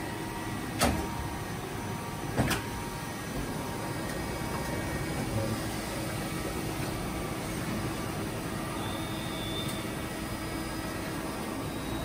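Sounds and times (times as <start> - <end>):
lathe humming and whining: 0.0 - 12.0.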